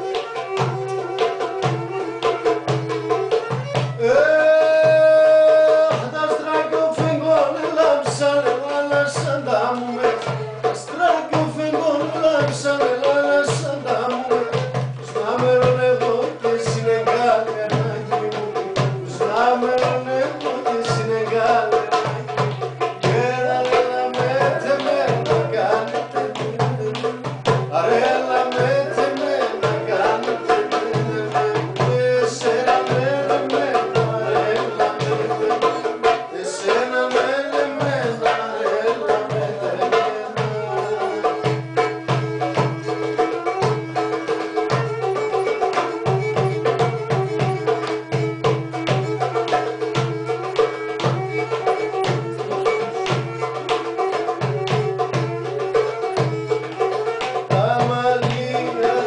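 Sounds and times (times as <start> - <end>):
folk melody instrument: 0.0 - 59.0
person singing: 0.0 - 59.0
steady drum beat: 0.0 - 59.0.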